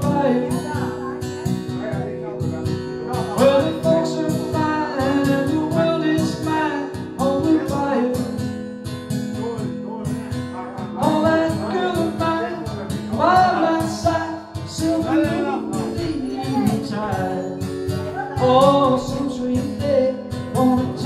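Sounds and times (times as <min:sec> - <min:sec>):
man singing: 0:00.0 - 0:08.6, 0:09.4 - 0:21.0
acoustic guitar strumming: 0:00.0 - 0:21.0.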